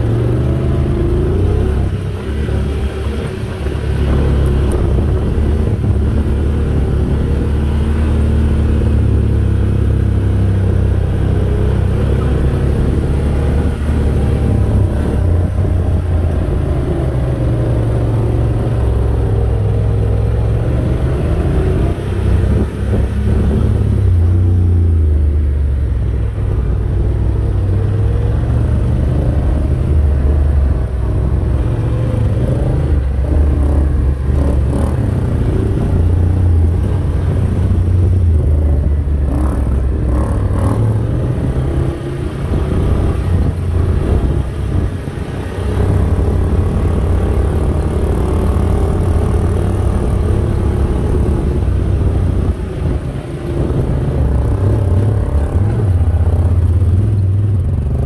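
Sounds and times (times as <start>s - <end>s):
quad engines rumbling: 0.0s - 58.0s.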